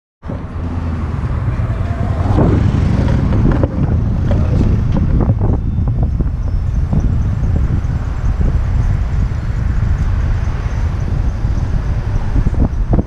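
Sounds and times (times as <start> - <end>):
wind buffeting microphone: 0.2 - 13.0
vehicle engine running: 0.3 - 13.0.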